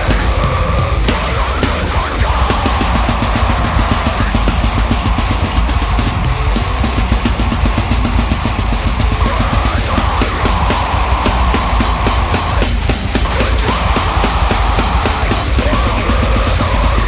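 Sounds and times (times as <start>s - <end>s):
deathcore song: 0.0s - 17.0s
distorted guitars: 0.0s - 17.0s
fast drum kit: 0.0s - 17.0s.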